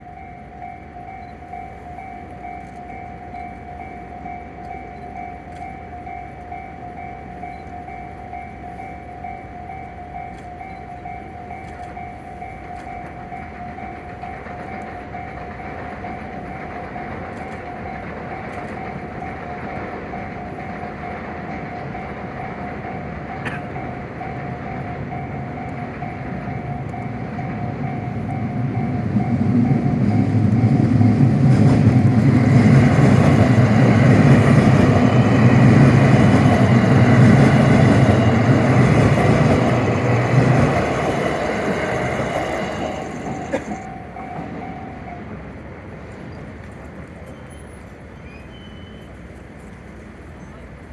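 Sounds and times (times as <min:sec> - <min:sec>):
train rumble: 0:00.0 - 0:50.9.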